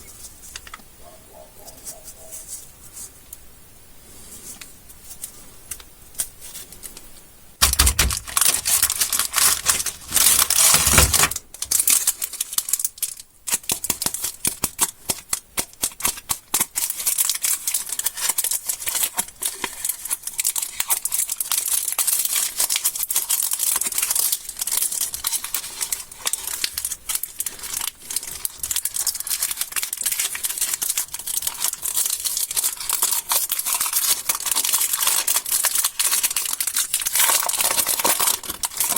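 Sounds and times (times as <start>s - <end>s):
candy wrappers crinkling: 5.2s - 38.9s.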